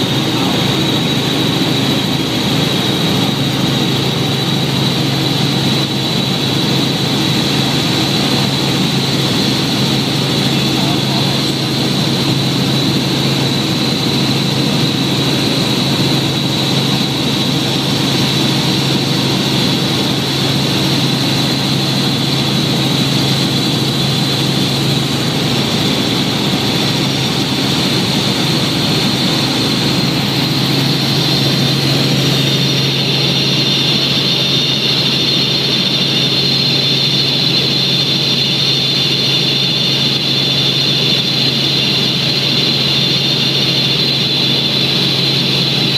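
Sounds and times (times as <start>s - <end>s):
helicopter engine and rotor drone: 0.0s - 45.9s
high whine: 0.0s - 45.9s.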